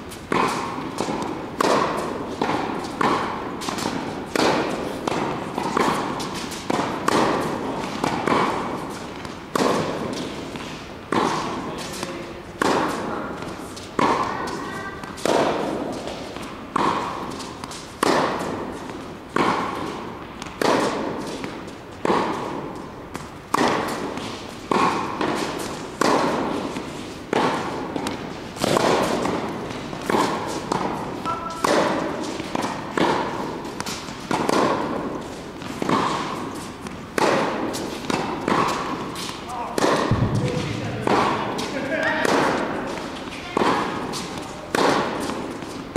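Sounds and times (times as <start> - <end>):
tennis ball struck by rackets: 0.1 - 45.9.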